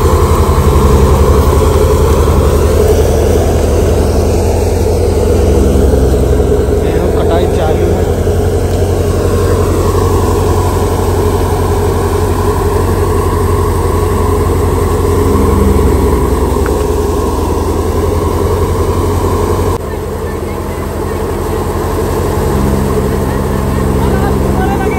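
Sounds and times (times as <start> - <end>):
tractor-driven thresher running: 0.0 - 24.9.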